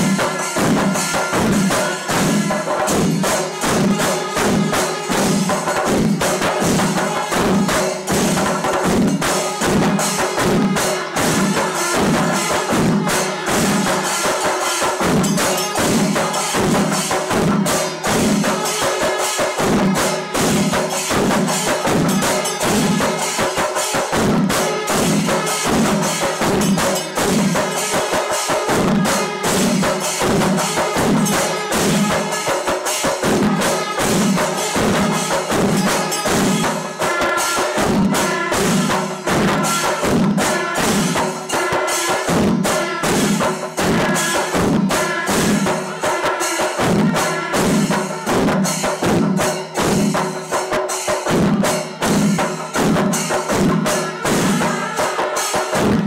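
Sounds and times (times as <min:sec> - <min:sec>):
brass hand cymbals: 0:00.0 - 0:56.0
stick-beaten drums: 0:00.0 - 0:56.0.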